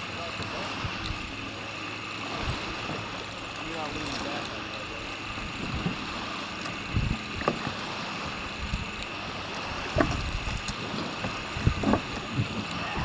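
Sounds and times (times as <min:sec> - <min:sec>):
water splashing around kayaks: 0:00.0 - 0:13.0.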